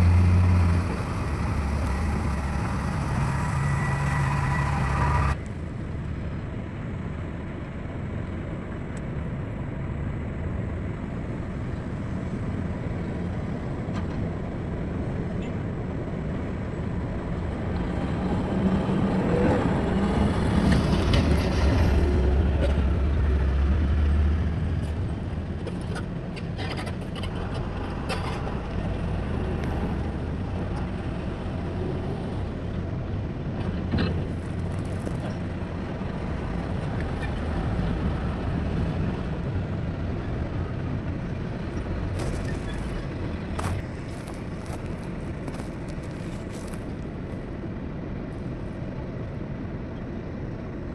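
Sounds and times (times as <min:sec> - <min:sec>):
heavy diesel engines rumbling: 0:00.0 - 0:50.9.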